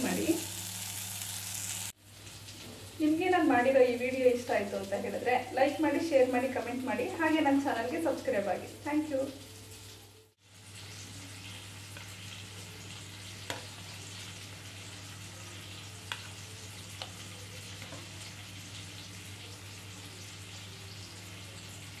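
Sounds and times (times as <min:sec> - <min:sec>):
frying oil sizzling: 0:00.0 - 0:22.0.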